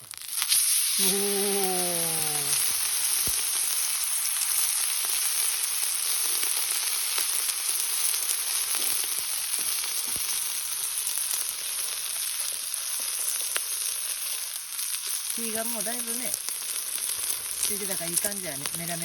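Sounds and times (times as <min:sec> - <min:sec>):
steak sizzling: 0:00.0 - 0:19.0.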